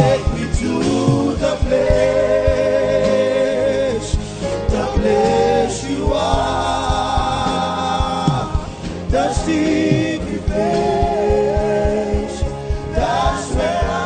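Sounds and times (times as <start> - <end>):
low drum beat: 0.0 - 14.0
voices singing long notes: 0.0 - 14.0.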